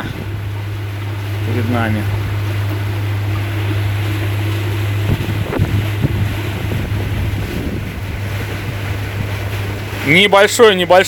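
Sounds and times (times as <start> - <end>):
boat motor humming: 0.0 - 11.0
wind buffeting microphone: 0.0 - 11.0.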